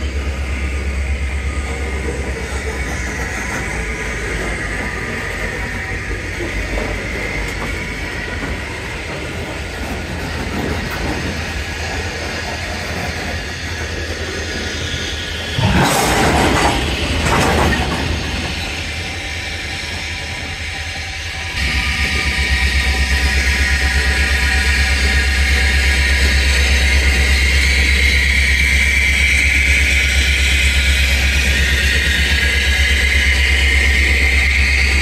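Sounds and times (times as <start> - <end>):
diesel locomotive engine rumble: 0.0 - 35.0.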